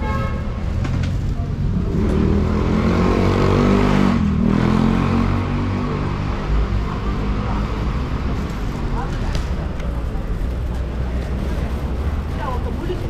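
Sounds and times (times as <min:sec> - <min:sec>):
traffic noise: 0:00.0 - 0:13.0
vehicle engine passing by: 0:00.9 - 0:13.0.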